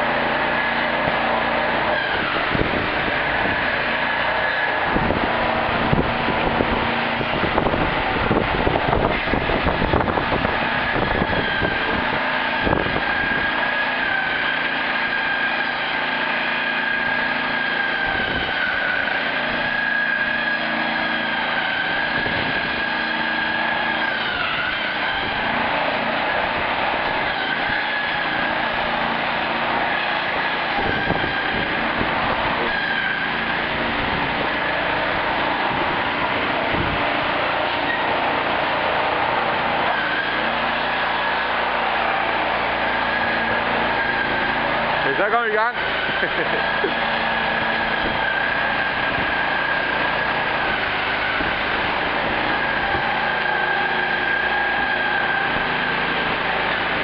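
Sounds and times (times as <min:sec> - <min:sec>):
heavy machinery whining: 0:00.0 - 0:57.0.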